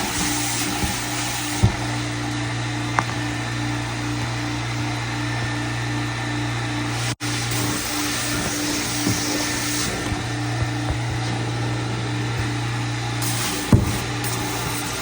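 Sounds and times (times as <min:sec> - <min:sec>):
carpet cleaning machine drone: 0:00.0 - 0:15.0.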